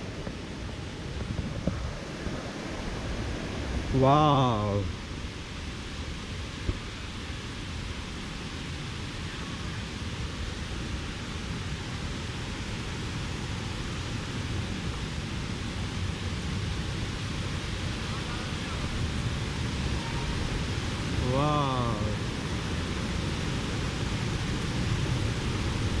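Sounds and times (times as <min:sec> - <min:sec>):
waterfall rushing: 0:02.0 - 0:05.5, 0:06.5 - 0:26.0.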